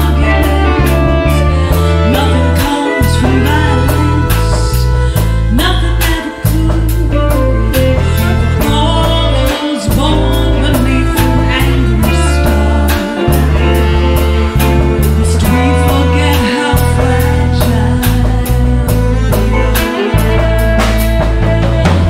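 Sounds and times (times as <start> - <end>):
bass: 0.0 - 22.0
guitar: 0.0 - 22.0
violin: 0.0 - 22.0
woman singing: 0.0 - 22.0.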